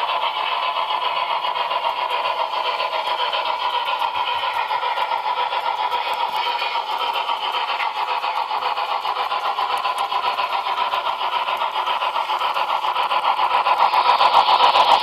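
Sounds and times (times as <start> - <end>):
model train buzzing hum: 0.0 - 15.0.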